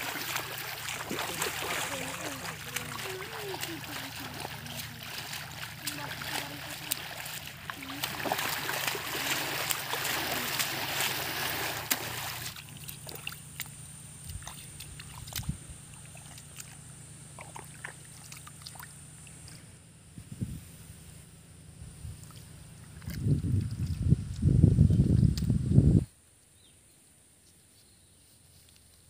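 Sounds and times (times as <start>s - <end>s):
muddy water sloshing and splashing: 0.0s - 19.7s, 22.0s - 25.5s.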